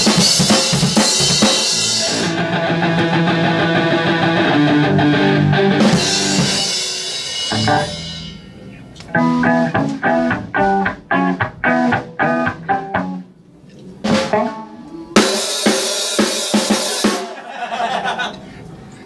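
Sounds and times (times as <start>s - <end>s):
electric guitar riff: 0.0s - 13.3s, 14.1s - 17.2s.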